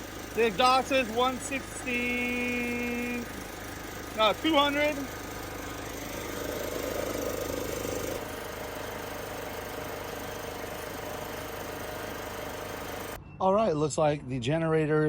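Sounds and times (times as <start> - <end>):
generator engine running: 0.0 - 13.2.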